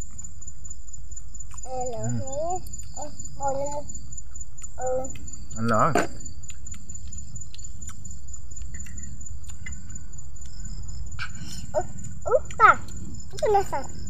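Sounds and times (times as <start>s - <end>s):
insects shrilling: 0.0s - 14.0s.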